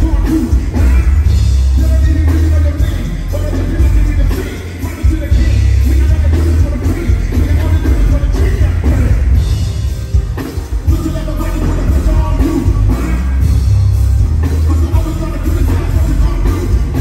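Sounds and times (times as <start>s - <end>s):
booming bass line: 0.0s - 17.0s
loud music over sound system: 0.0s - 17.0s.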